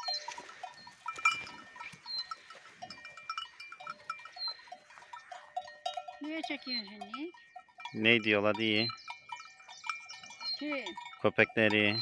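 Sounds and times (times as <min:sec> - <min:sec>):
cow bells clinking: 0:00.0 - 0:12.0.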